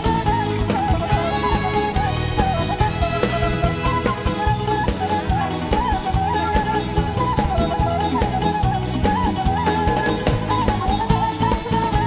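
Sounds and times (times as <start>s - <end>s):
drum kit beat: 0.0s - 12.0s
ornamented lead melody: 0.0s - 12.0s.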